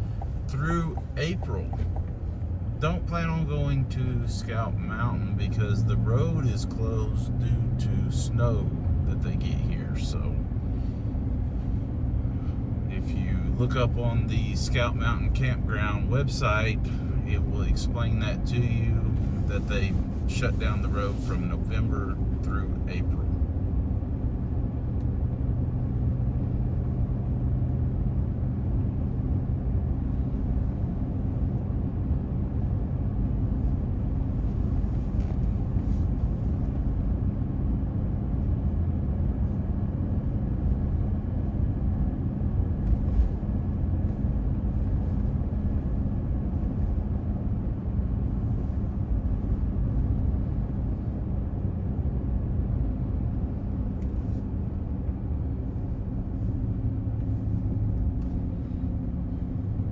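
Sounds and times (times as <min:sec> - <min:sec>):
car engine hum and road rumble: 0:00.0 - 0:59.9.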